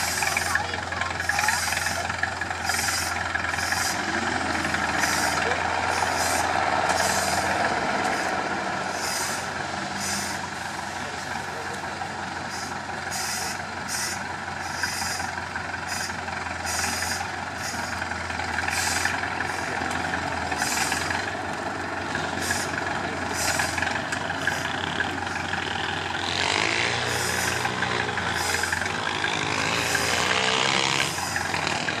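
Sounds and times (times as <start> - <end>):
diesel truck engine running: 0.0 - 32.0.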